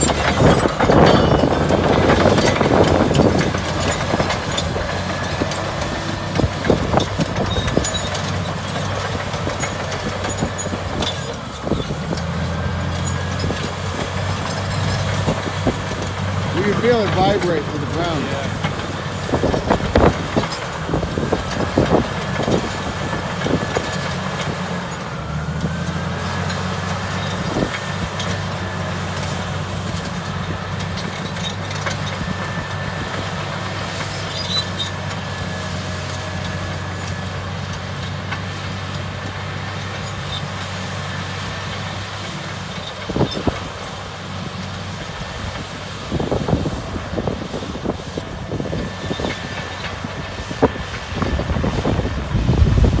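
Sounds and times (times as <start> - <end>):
bulldozer diesel engine drone: 0.0 - 53.0.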